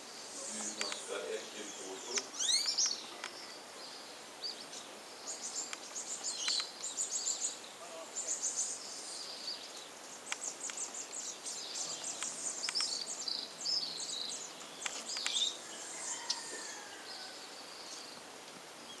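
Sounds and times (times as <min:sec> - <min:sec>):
birds chirping and twittering: 0:00.0 - 0:19.0.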